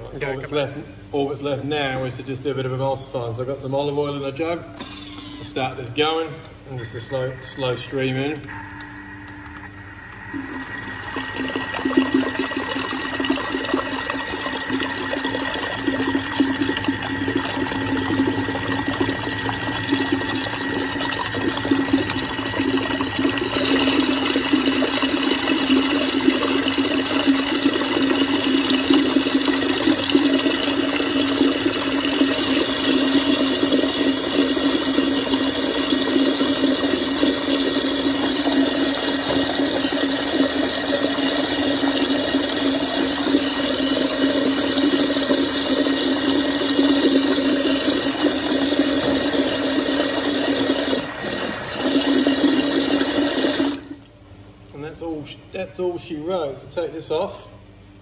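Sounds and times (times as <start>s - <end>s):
blender whirring and sloshing: 3.7s - 54.7s.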